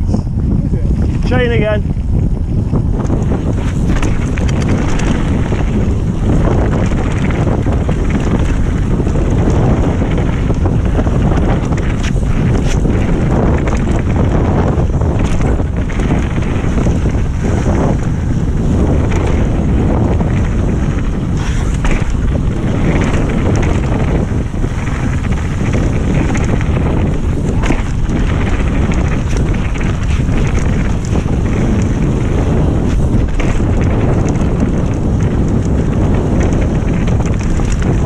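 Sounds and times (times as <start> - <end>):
bike knocks and rattles: 0.0 - 38.0
wind buffeting microphone: 0.0 - 38.0
tyres rolling over dirt and stones: 2.9 - 38.0.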